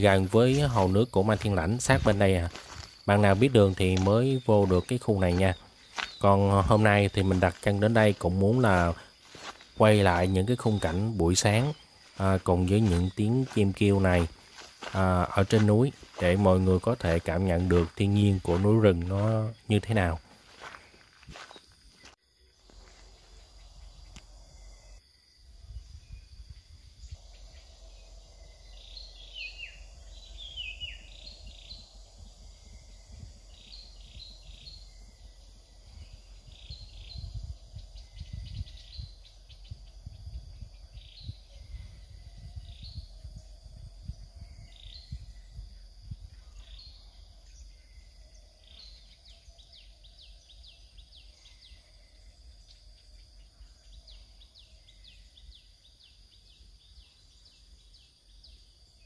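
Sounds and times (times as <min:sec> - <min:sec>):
birds chirping: 0:00.0 - 0:25.0, 0:25.6 - 0:59.0
high insect hum: 0:00.0 - 0:59.0.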